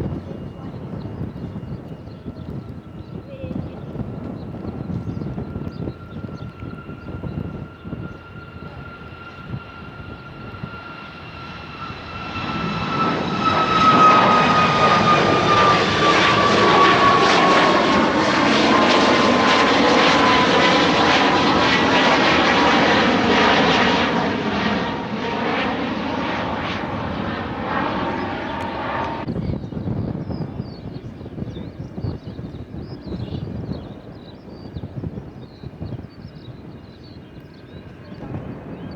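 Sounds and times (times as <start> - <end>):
jet aircraft engine whine: 0.0 - 38.9.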